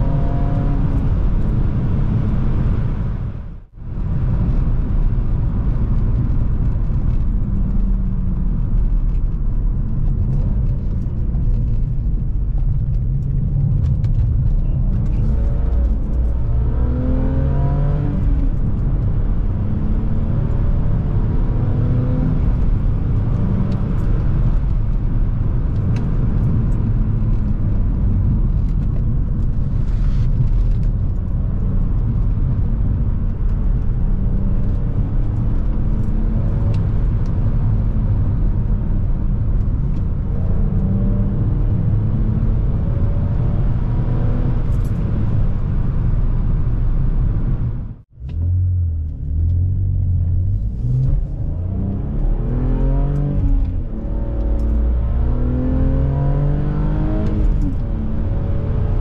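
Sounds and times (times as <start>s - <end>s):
car engine accelerating: 0.0s - 59.0s
road rumble: 0.0s - 59.0s.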